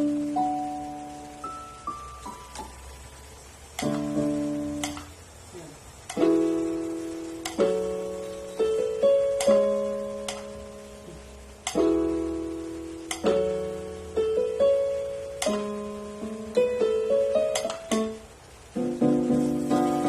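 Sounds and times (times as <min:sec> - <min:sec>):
electronic keyboard chords: 0:00.0 - 0:20.0.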